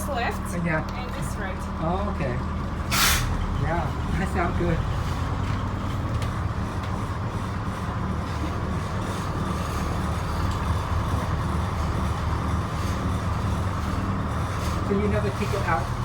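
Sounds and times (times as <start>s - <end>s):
boat engines idling: 0.0s - 16.0s.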